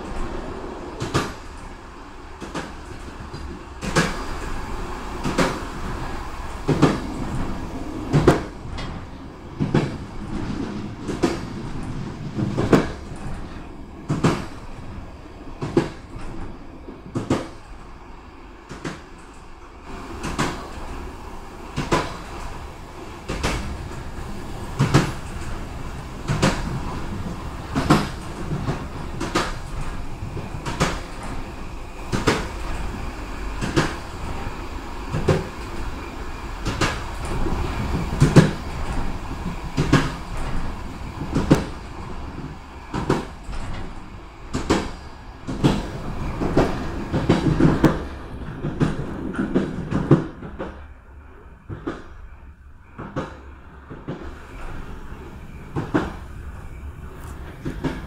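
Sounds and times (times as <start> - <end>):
low rumble of moving train: 0.0 - 58.0
train wheels clacking on rail joints: 0.0 - 58.0.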